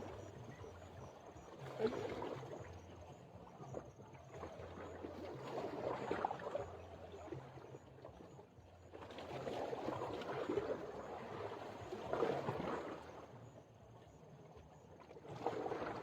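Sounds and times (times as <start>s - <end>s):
water sloshing against a hull: 0.0s - 16.0s.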